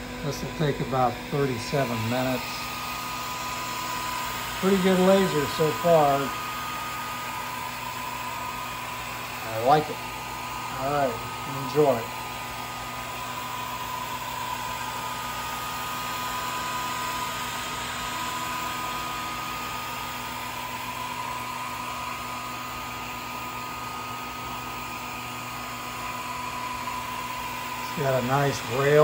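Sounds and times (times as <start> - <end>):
cooling fan and air hiss: 0.0 - 29.0.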